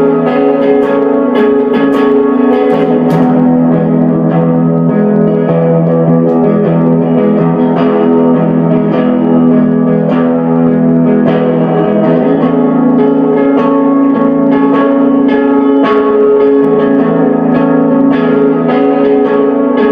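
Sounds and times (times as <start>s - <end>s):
plucked guitar notes: 0.0s - 19.9s.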